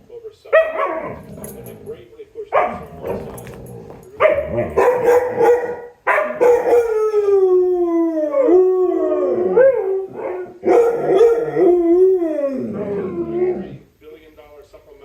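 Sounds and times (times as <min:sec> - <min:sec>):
dogs howling: 0:00.6 - 0:13.9.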